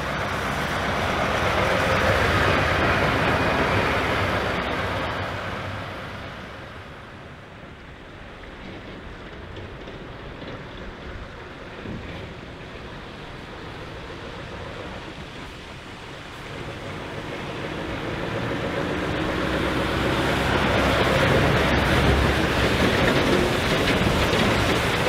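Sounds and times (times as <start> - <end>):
truck diesel engine: 0.0 - 25.0
tyres rushing on wet road: 0.0 - 25.0.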